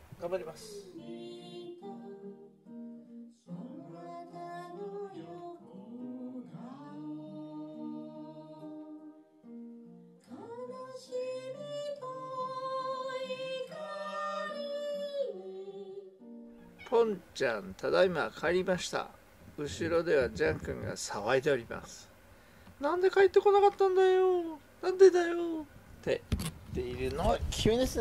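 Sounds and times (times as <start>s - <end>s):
acoustic guitar: 0.0s - 26.8s.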